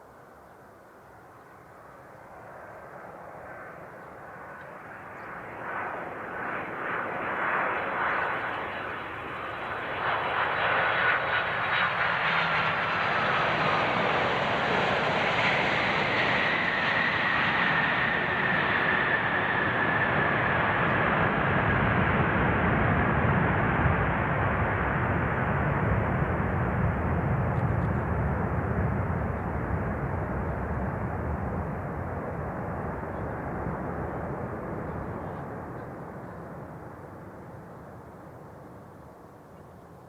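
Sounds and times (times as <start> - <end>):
jet airliner engines passing: 0.2 - 40.0.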